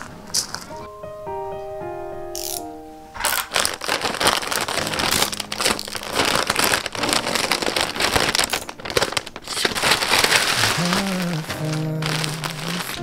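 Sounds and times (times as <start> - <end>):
plastic mailer bag crinkling: 0.0 - 0.9, 3.2 - 13.0.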